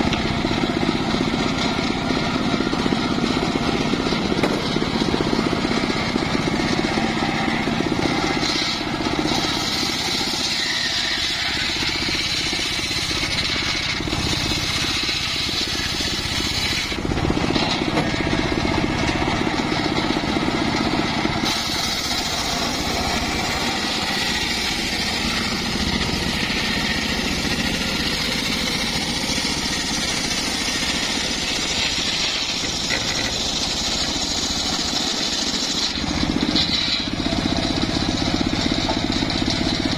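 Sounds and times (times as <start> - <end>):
circular sawmill cutting log: 0.0 - 39.9.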